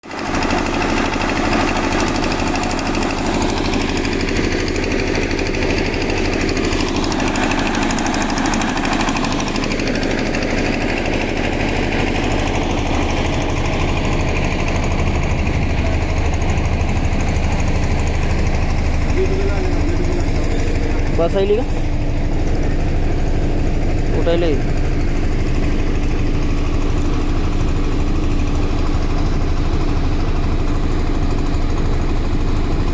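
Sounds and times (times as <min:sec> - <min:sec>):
diesel engine clattering: 0:00.0 - 0:32.9.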